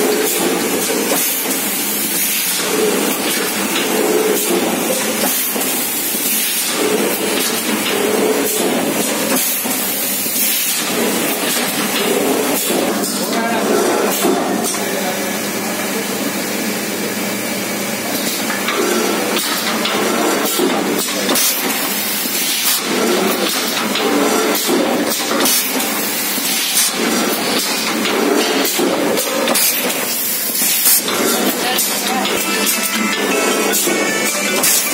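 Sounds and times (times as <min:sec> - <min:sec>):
machine clattering and clanking: 0:00.0 - 0:15.1, 0:18.0 - 0:34.9.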